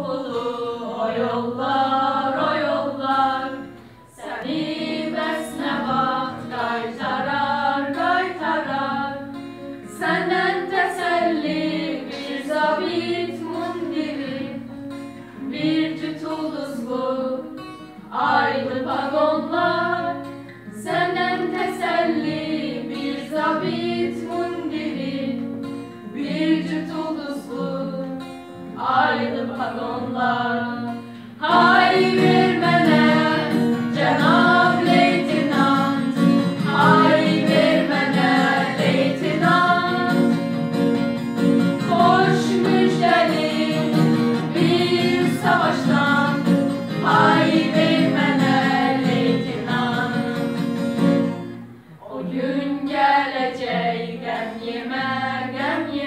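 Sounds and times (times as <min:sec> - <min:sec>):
girls singing: 0:00.0 - 0:14.8, 0:15.4 - 0:40.7, 0:41.6 - 0:50.6, 0:51.9 - 0:56.0
acoustic guitar: 0:00.0 - 0:56.0.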